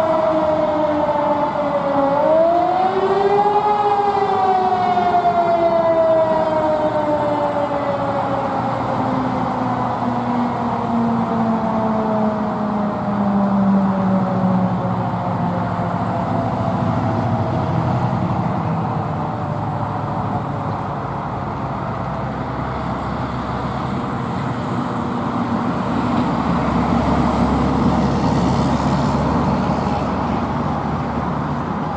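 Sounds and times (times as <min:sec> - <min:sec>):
car engine and tyre noise: 0:00.0 - 0:31.9.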